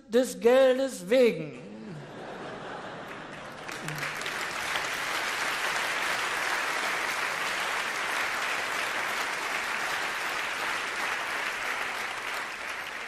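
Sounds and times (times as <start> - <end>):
large audience applauding: 2.5 - 13.0.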